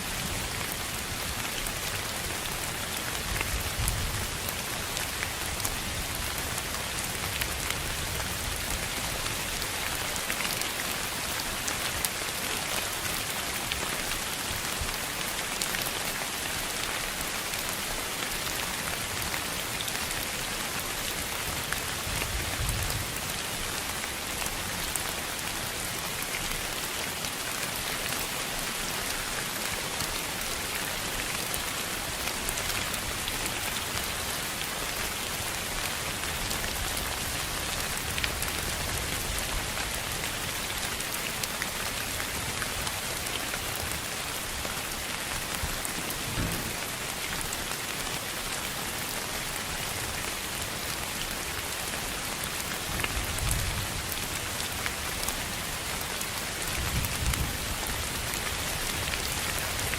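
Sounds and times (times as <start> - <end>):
rain-like hiss: 0.0 - 59.9.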